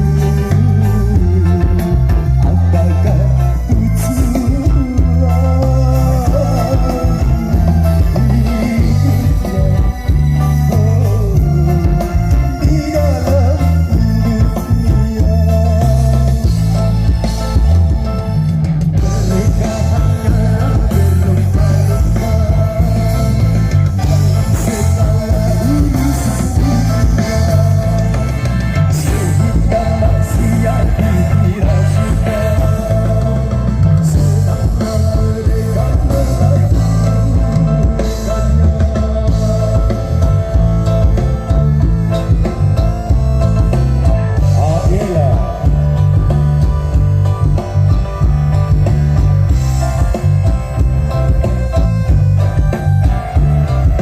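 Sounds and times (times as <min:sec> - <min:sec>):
heavy pounding bass: 0:00.0 - 0:54.0
live band music over sound system: 0:00.0 - 0:54.0.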